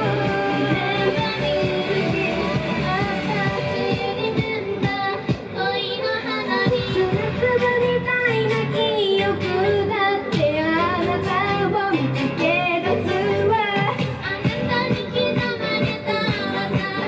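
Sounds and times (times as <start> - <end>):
pop backing music: 0.0 - 17.0
women singing pop song: 0.0 - 17.0.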